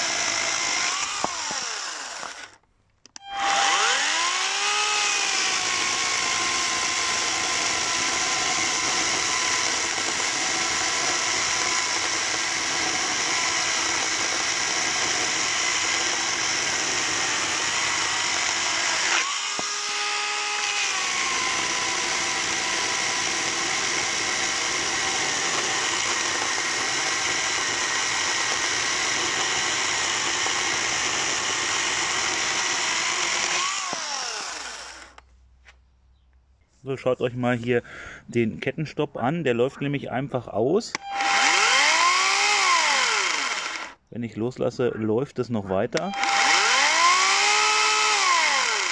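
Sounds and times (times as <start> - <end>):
electric chainsaw cutting log: 0.0 - 2.6, 3.2 - 35.2, 41.0 - 44.0, 46.0 - 48.9.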